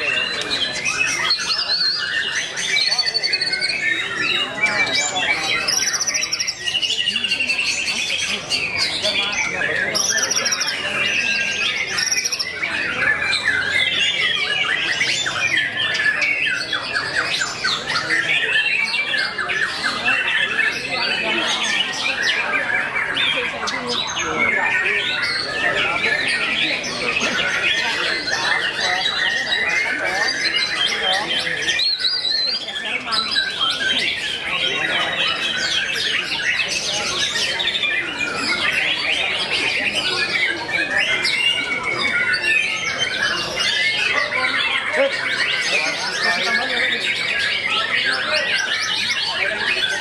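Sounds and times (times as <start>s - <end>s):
birds singing rapid whistles: 0.0s - 50.0s.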